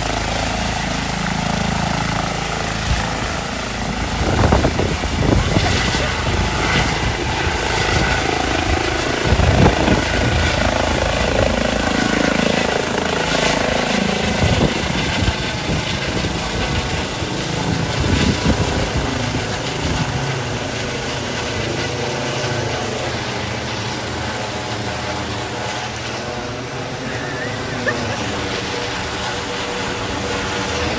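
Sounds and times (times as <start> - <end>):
aircraft engine noise: 0.0 - 30.9.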